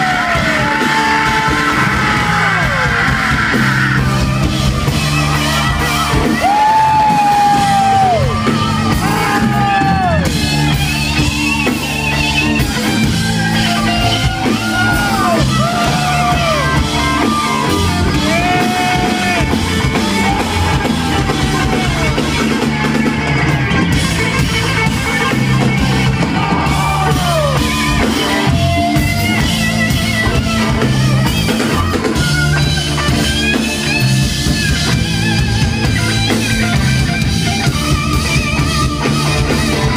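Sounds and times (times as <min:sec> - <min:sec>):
bass and drums: 0:00.0 - 0:39.9
electric guitar solo: 0:00.0 - 0:39.9.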